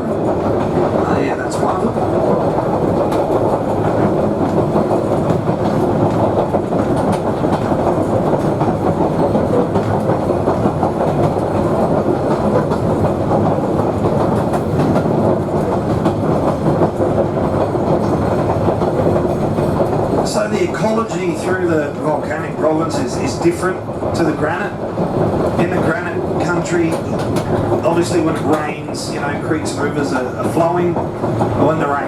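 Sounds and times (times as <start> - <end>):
diesel railcar engine drone: 0.0 - 32.0
train wheels on rails: 0.0 - 32.0.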